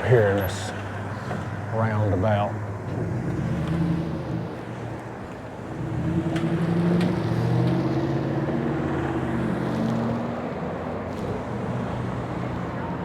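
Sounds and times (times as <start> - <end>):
steady road noise: 0.0 - 13.0.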